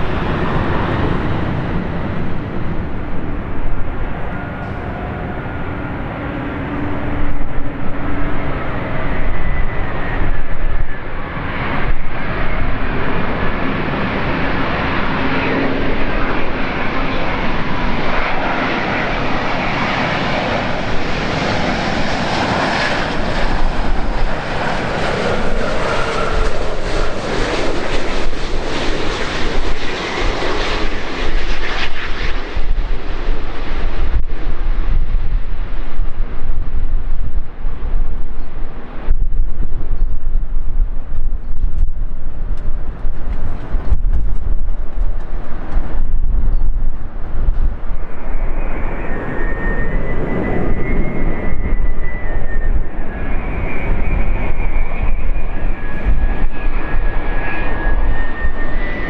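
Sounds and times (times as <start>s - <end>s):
jet airliner engine noise: 0.0s - 59.0s.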